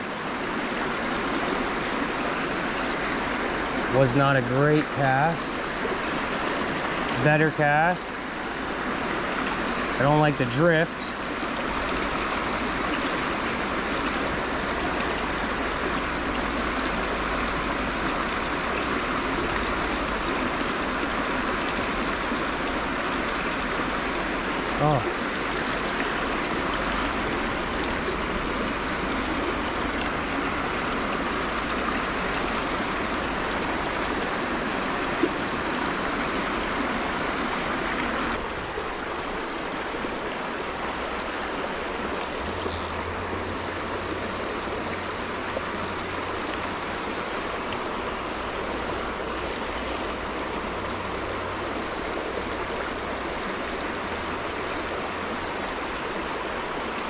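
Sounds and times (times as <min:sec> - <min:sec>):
creek water rushing: 0:00.0 - 0:57.0.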